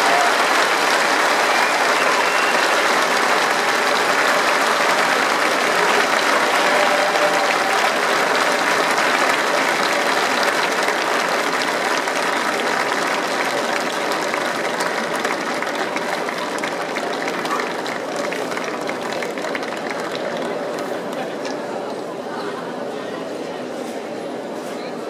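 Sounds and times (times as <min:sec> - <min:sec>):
large crowd applauding: 0:00.0 - 0:22.2.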